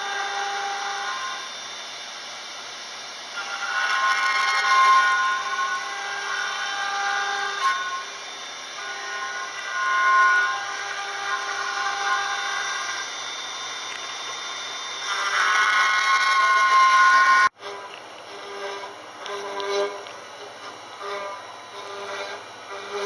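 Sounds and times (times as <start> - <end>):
cutter carving wood: 0.0 - 23.0
machine spindle whining: 0.0 - 23.0.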